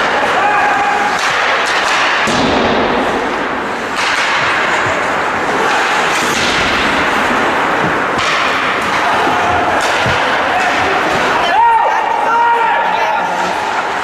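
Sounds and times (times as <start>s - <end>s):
hockey sticks and puck clicking: 0.0s - 12.4s
skates scraping on ice: 0.0s - 14.0s.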